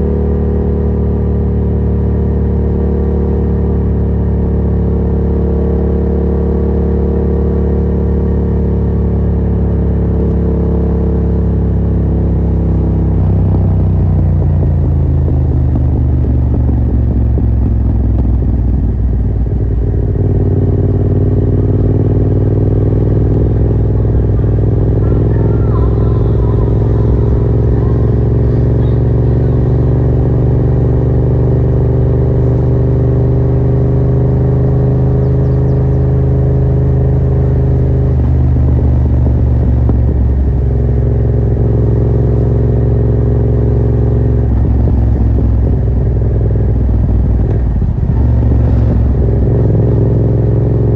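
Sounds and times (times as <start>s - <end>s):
loud motorcycle engine running: 0.0s - 50.9s.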